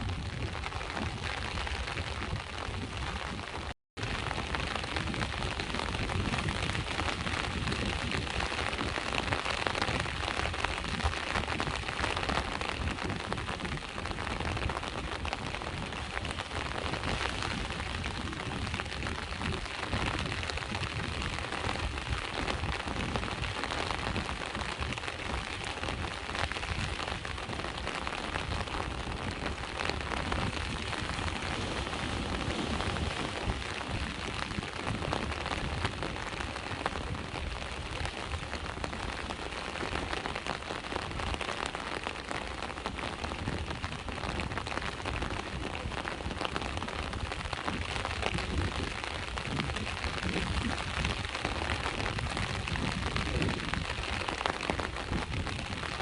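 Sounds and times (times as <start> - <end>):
sea waves rumbling: 0.0 - 53.0
rain falling on a surface: 0.0 - 56.0.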